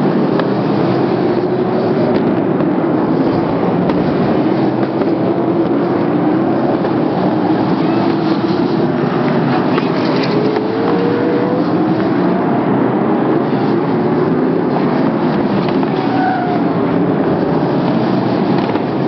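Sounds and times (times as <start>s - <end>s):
racing car engines droning: 0.0s - 19.0s.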